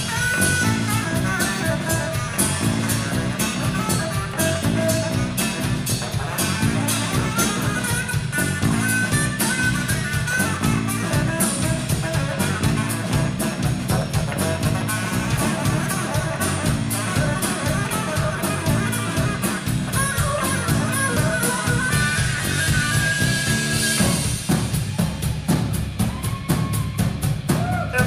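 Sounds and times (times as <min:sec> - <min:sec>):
saxophone: 0:00.0 - 0:24.4
drum kit beat: 0:00.0 - 0:28.0
electric bass: 0:00.0 - 0:28.0.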